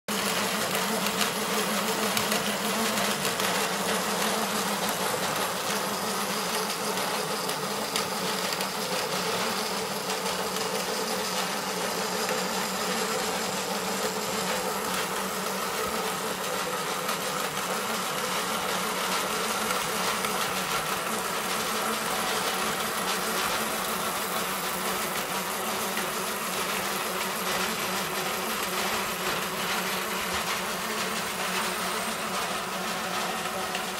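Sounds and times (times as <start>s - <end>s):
grain mill buzzing drone: 0.1s - 33.9s.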